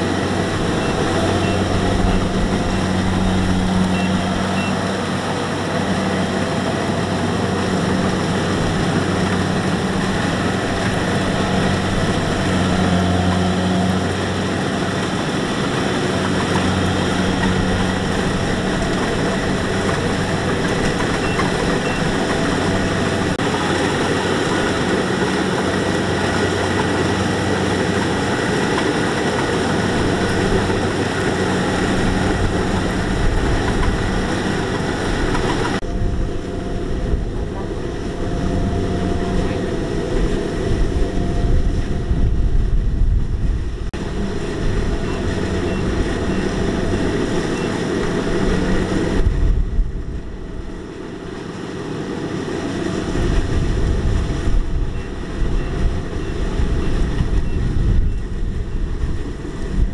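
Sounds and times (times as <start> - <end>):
combine harvester engine running: 0.0 - 59.9.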